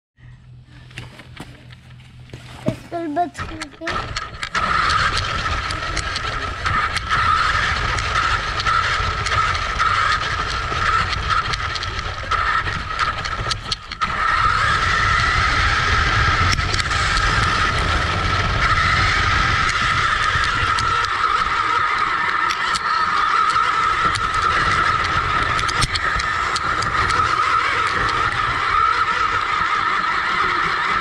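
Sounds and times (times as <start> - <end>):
electric motor whine: 0.5 - 31.0
tyres and chassis rattling on ground: 0.9 - 31.0.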